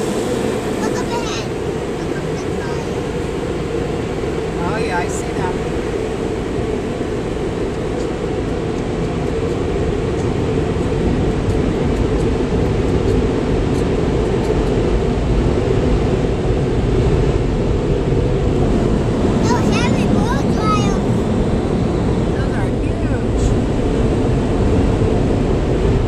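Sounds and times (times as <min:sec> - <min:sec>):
air dryers blowing: 0:00.0 - 0:26.0.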